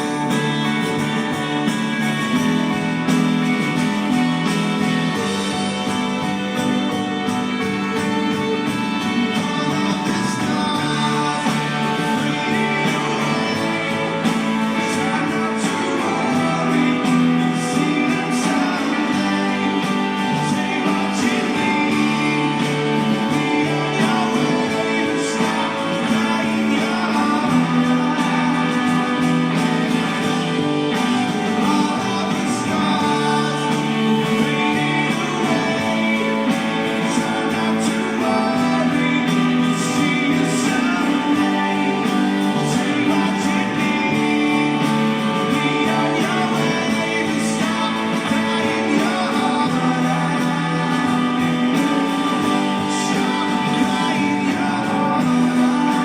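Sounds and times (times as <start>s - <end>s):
live rock band: 0.0s - 56.0s.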